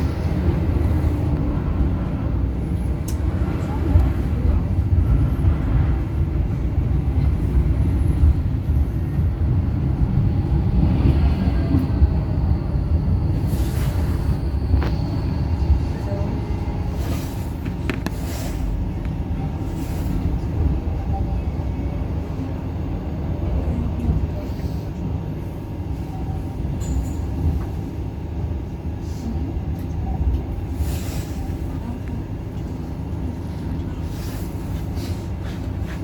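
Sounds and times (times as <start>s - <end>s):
electric tram rumbling on track: 0.0s - 36.0s
tram knocks and rattles: 0.0s - 36.0s.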